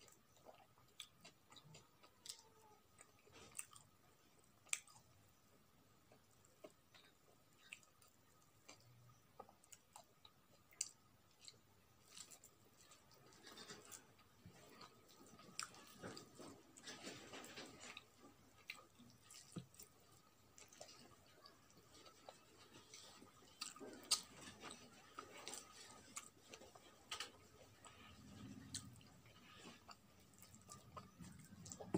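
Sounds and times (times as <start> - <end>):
soft chewing: 0.0 - 31.9.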